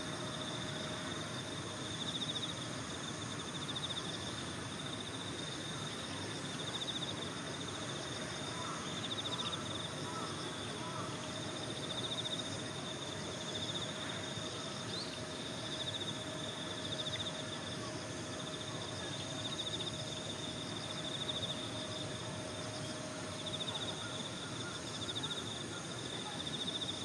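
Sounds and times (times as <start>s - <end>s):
faint hum: 0.0s - 27.0s
insects trilling: 0.0s - 27.0s.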